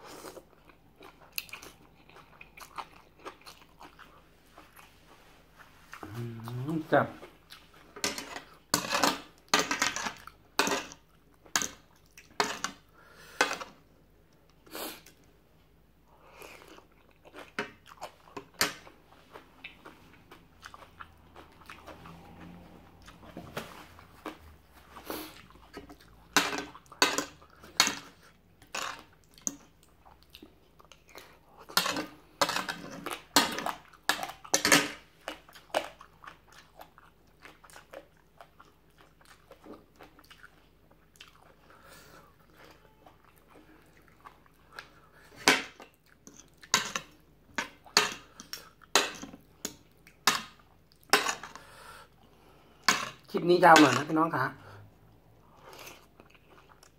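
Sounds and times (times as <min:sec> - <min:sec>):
person chewing crunchy food: 0:00.0 - 0:15.4, 0:16.1 - 0:53.3, 0:55.1 - 0:56.9.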